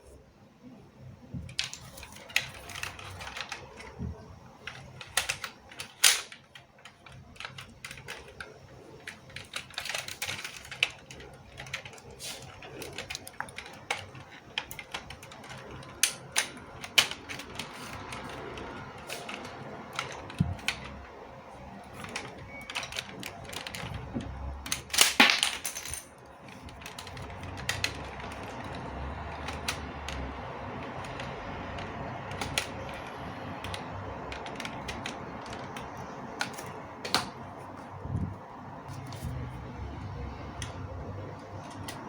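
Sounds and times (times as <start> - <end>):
plastic parts clicking and clattering: 1.3 - 37.5, 40.5 - 42.0.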